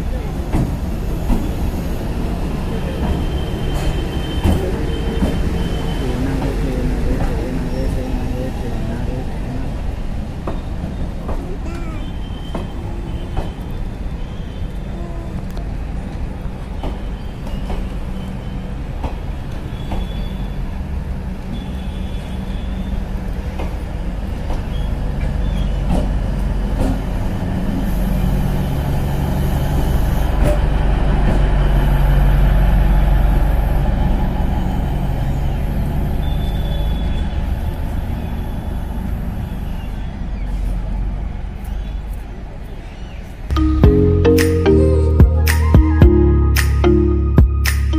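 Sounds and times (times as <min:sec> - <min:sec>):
train coaches rolling past: 0:00.0 - 0:47.9.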